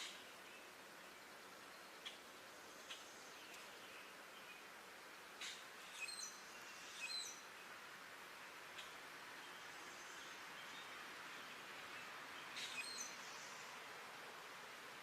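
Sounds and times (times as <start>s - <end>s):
small birds chirping: 0.0s - 7.8s, 8.7s - 13.8s
faint steady hiss: 0.0s - 15.0s.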